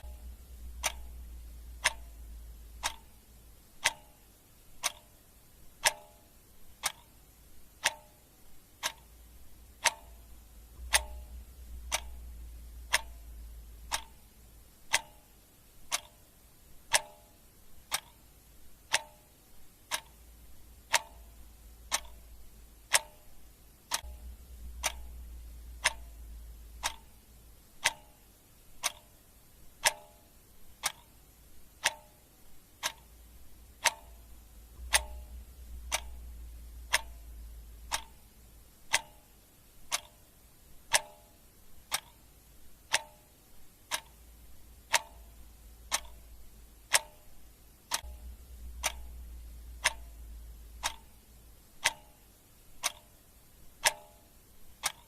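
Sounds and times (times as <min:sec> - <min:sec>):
clock ticking: 0:00.0 - 0:55.0
faint low hum: 0:00.0 - 0:55.0.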